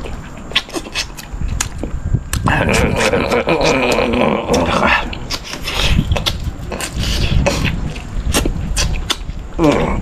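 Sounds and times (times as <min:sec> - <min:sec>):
clicks of teeth and lips: 0:00.0 - 0:10.0
man chewing and gnawing: 0:00.0 - 0:10.0.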